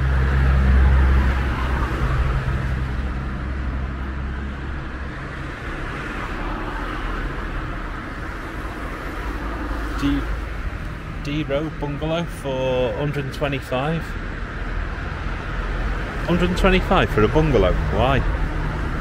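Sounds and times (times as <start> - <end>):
traffic noise: 0.0 - 19.0
vehicle engine hum: 0.0 - 19.0.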